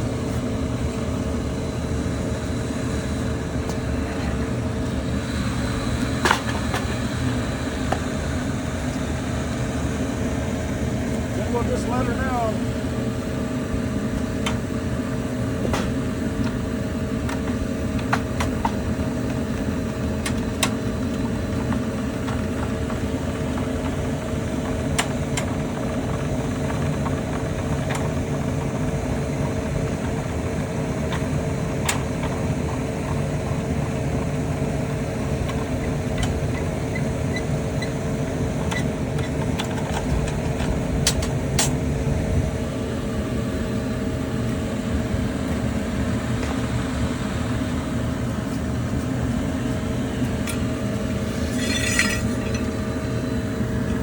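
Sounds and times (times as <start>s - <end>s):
constant hum tones: 0.0s - 54.0s
furnace burner and blower running: 0.0s - 54.0s.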